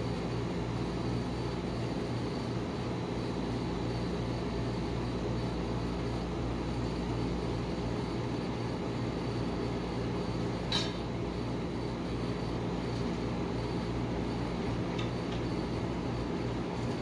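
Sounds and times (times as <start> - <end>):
refrigeration unit humming: 0.0 - 17.0.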